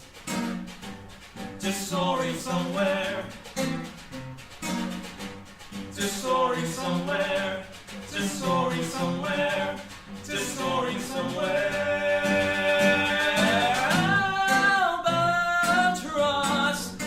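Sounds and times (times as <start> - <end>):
voices singing with instruments: 1.5 - 4.2, 5.6 - 17.0.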